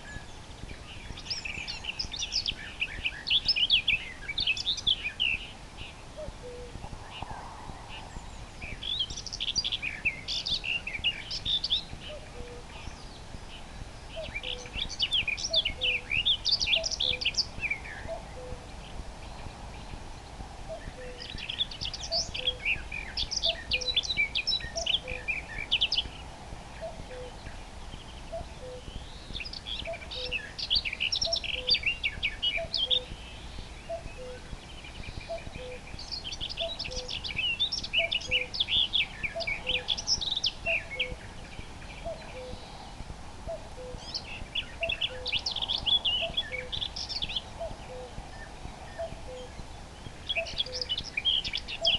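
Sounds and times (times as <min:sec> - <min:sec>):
nightingale singing: 0:00.0 - 0:51.9
cuckoo calling: 0:01.2 - 0:13.0, 0:14.1 - 0:18.8, 0:20.7 - 0:26.2, 0:26.8 - 0:27.5, 0:28.2 - 0:42.8, 0:43.5 - 0:49.6, 0:50.3 - 0:51.9.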